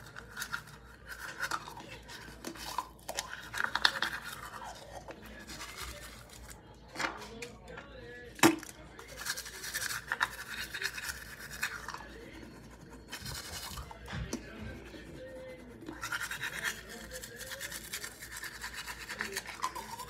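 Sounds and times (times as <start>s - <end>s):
toothbrush scrubbing teeth: 0.0s - 6.6s, 9.0s - 20.0s.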